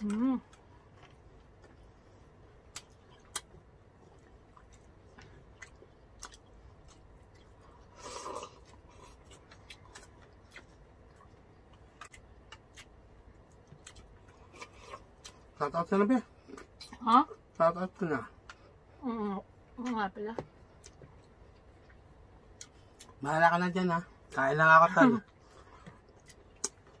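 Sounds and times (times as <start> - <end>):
people chewing and eating: 0.0 - 27.0.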